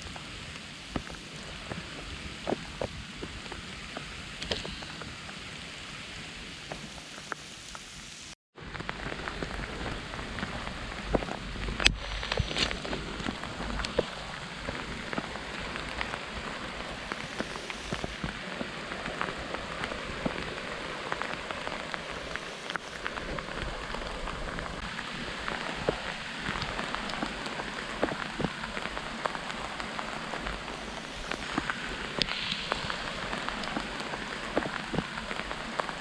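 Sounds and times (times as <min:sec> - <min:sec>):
snow pattering: 0:00.0 - 0:36.0
wind rumbling on microphone: 0:00.0 - 0:36.0.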